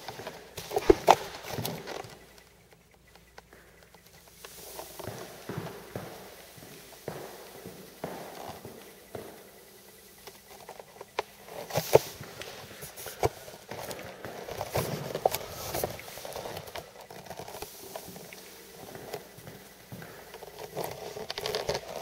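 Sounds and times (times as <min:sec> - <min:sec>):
scuffing and rustling: 0:00.0 - 0:22.0.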